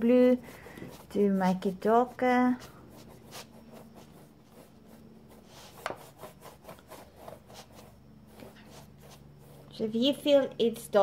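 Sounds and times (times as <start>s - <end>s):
paintbrush strokes on canvas: 0.0s - 10.8s.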